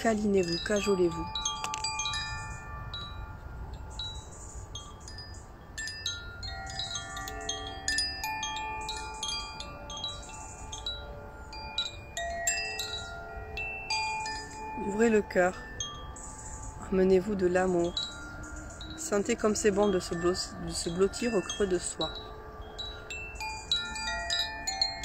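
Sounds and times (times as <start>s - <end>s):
wind chime ringing: 0.0s - 25.0s.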